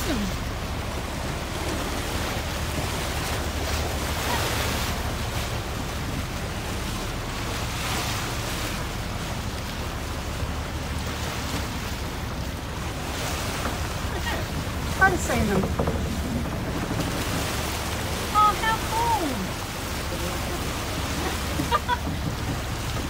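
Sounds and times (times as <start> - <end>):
water slapping boat hull: 0.0 - 23.0
wind buffeting microphone: 0.0 - 23.0.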